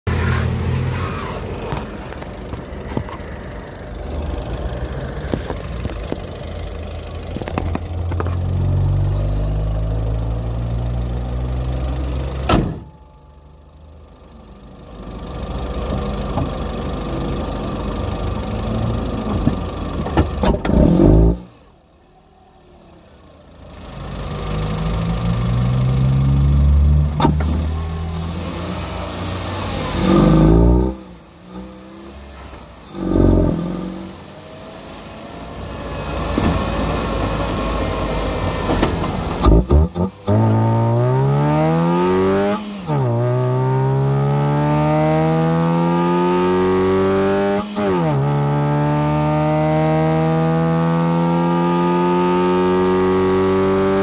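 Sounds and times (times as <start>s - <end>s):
car engine revving: 0.1s - 13.8s, 14.9s - 21.8s, 22.9s - 54.0s.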